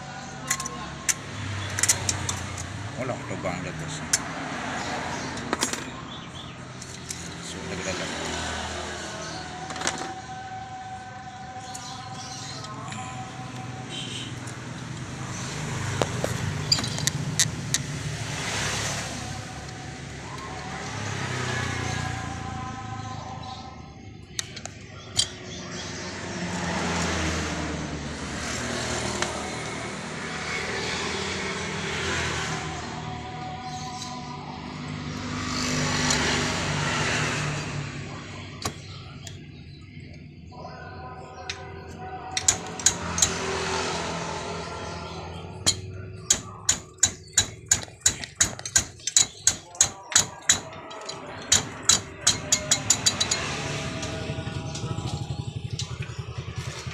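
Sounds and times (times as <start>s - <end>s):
car engine droning: 0.0s - 49.7s, 50.3s - 56.9s.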